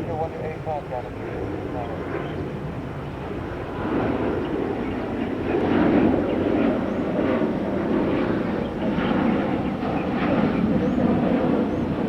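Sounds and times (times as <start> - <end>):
jet engine rush: 0.0 - 12.0.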